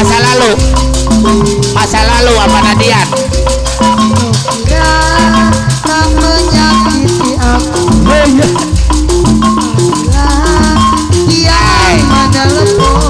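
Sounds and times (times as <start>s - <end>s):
gamelan ensemble music: 0.0s - 13.0s
heavy drum beats: 0.0s - 13.0s
rapid clicking percussion: 0.0s - 13.0s.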